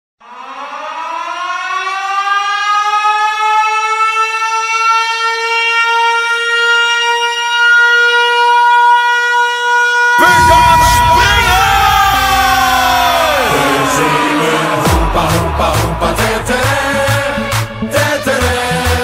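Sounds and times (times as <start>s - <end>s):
siren-type goal horn: 0.2s - 15.6s.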